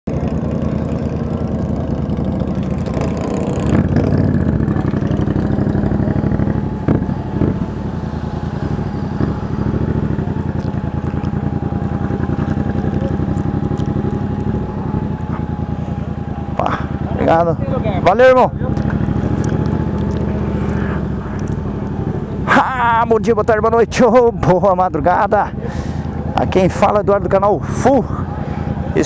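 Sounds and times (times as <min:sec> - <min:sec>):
motorcycle engine running: 0:00.1 - 0:29.0.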